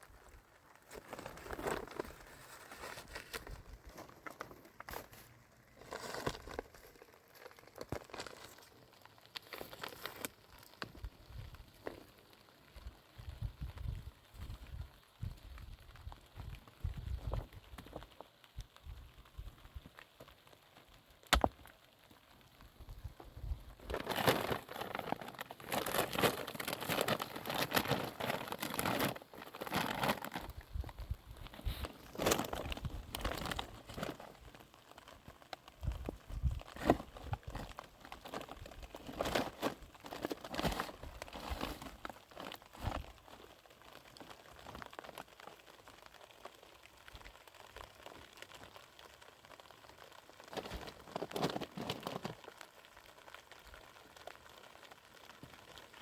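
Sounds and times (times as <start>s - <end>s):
plastic bags crinkling: 0.0s - 12.9s, 19.7s - 56.0s.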